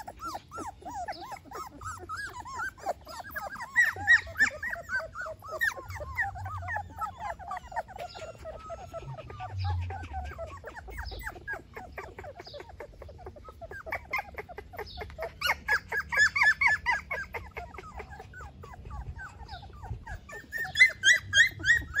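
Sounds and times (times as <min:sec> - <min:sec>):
puppies whimpering and squealing: 0:00.0 - 0:22.0.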